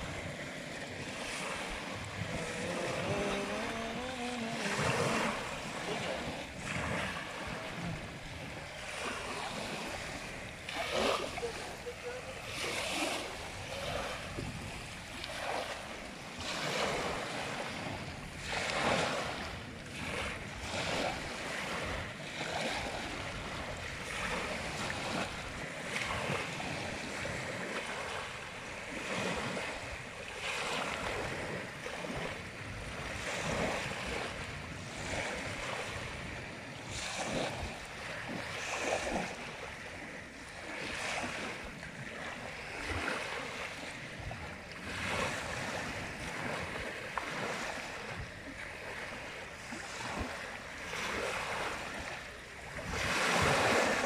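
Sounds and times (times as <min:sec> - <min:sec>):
small waves washing on sand: 0:00.0 - 0:54.0.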